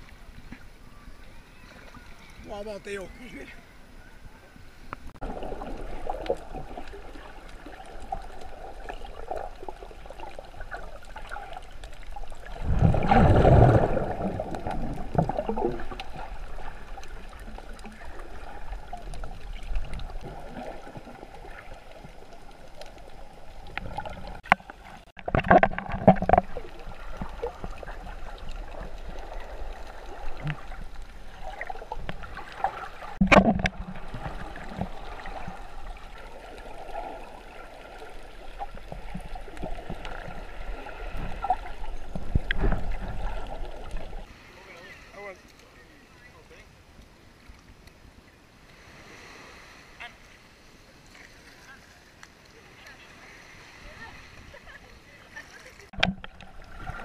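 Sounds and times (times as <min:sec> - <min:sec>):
surges of water noise: 0:00.0 - 0:57.0
muffled underwater wash: 0:03.2 - 0:57.0.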